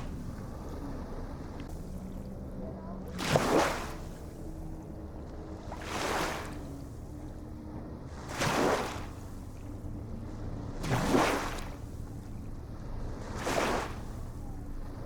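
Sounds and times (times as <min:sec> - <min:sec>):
low rumble of surf: 0:00.0 - 0:15.0.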